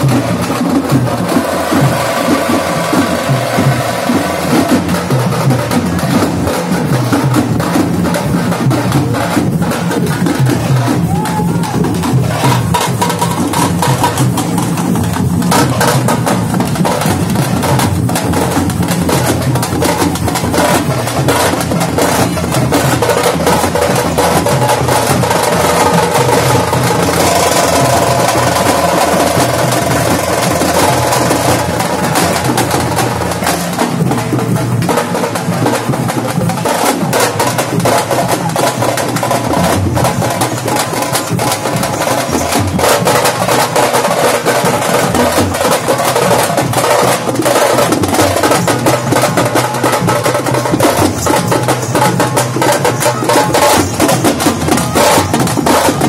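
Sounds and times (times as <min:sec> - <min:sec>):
drummers beating drums: 0:00.0 - 0:56.0.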